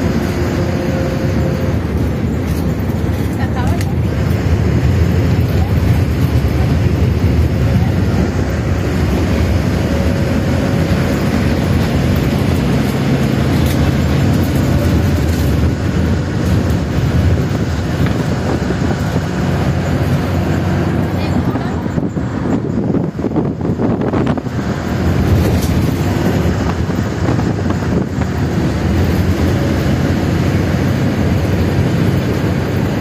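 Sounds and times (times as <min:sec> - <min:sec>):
vehicle rumbling: 0:00.0 - 0:33.0.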